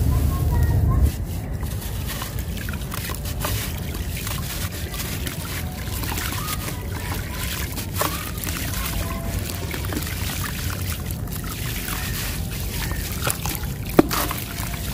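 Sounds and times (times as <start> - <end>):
gritty pieces crackling into water: 0.0 - 14.9
water sloshing and trickling: 0.0 - 14.9.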